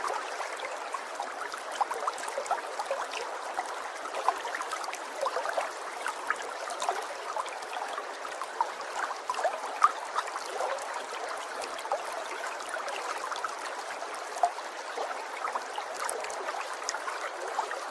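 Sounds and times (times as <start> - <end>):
water trickling and gurgling: 0.0 - 17.9.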